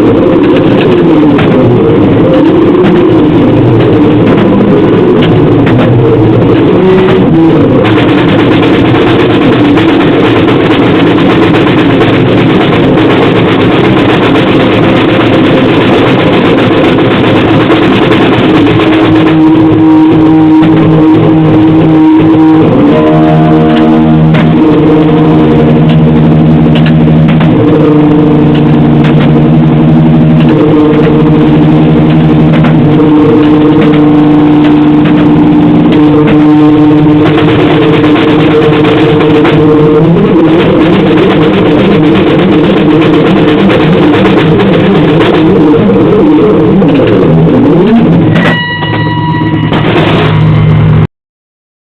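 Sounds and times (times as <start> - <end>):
distorted noise music: 0.0 - 51.1
sustained distorted tones: 0.0 - 51.1.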